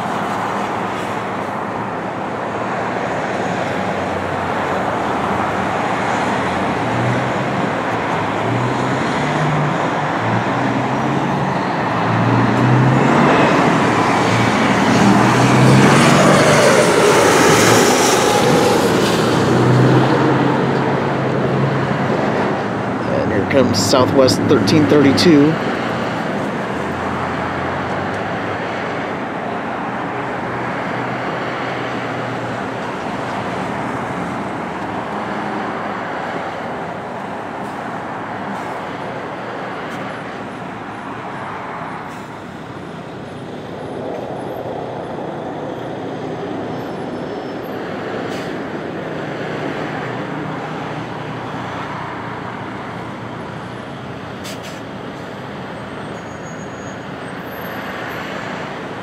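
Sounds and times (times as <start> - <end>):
road traffic rush: 0.0 - 59.0.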